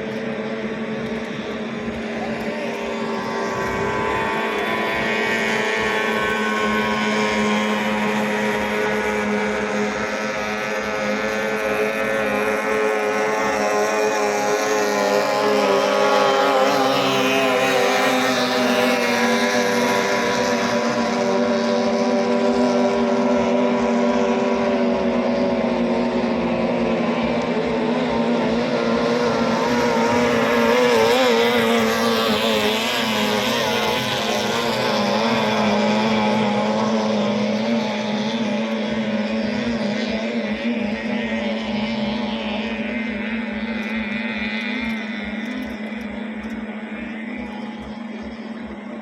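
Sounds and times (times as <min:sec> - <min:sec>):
outboard motor running flat out: 0:00.0 - 0:49.0.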